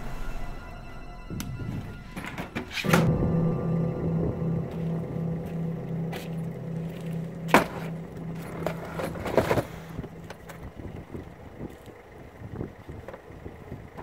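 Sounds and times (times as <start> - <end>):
pulsing low hum: 0.0 - 14.0.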